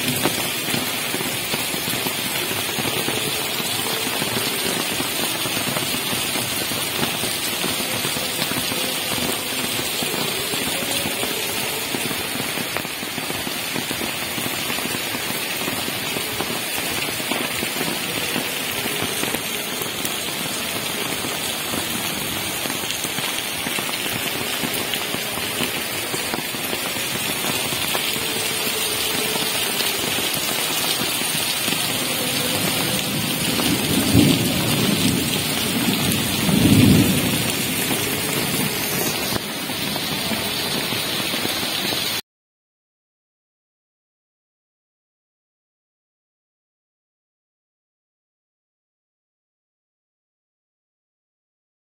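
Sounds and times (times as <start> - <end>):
thunder rumbling: 0.0 - 42.1
heavy rain on pavement: 0.0 - 42.2.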